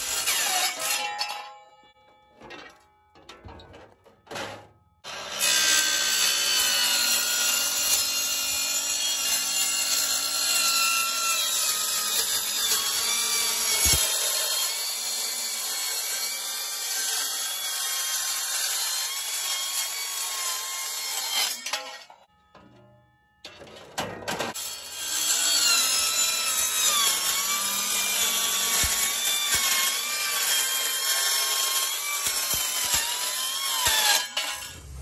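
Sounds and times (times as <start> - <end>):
circular saw cutting metal: 0.0 - 3.7, 4.3 - 35.0.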